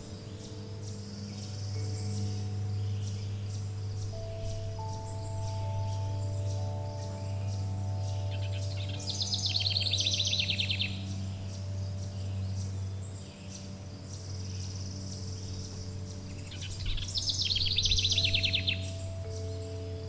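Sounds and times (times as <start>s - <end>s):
bird trilling: 0.0s - 20.0s
low drone of musical tones: 0.0s - 20.0s.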